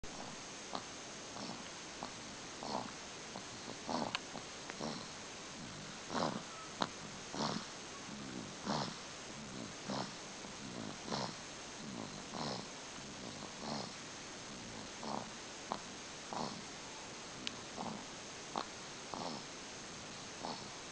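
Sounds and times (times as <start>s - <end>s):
person snoring: 0.1s - 16.7s, 17.7s - 20.9s.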